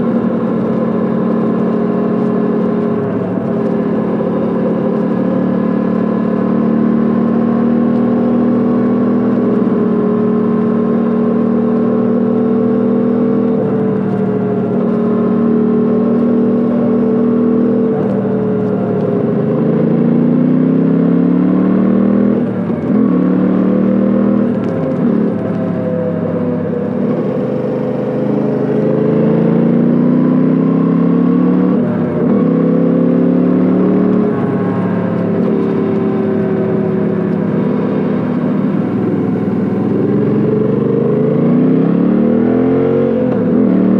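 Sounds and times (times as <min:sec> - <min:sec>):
motorcycle engine exhaust cruising: 0:00.0 - 0:43.9.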